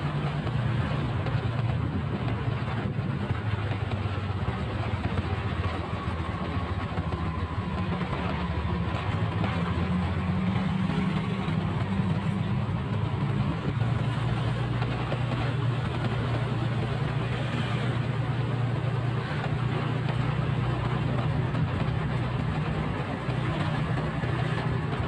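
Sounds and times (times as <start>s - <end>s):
motorcycle engine running: 0.0s - 25.0s
road and wind noise: 0.0s - 25.0s.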